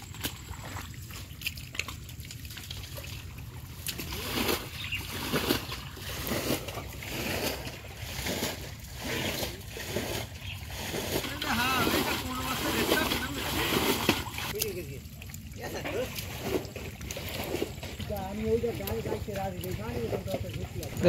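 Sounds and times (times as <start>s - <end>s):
people wading in muddy water: 0.0s - 21.0s.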